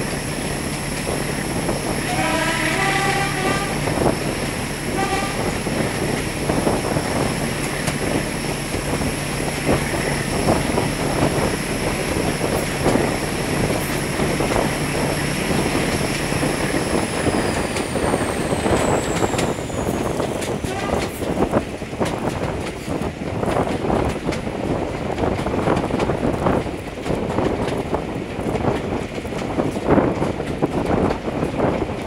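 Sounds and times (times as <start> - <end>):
low engine hum: 0.0 - 32.0
rumble of train coaches: 0.0 - 32.0
wheels clicking over track: 3.4 - 32.0.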